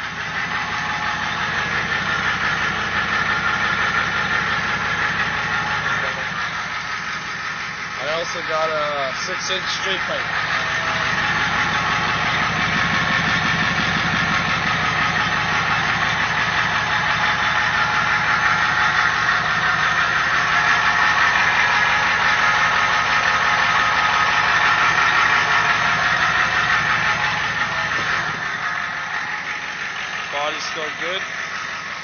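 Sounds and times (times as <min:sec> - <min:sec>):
diesel truck engine idling: 0:00.0 - 0:32.0.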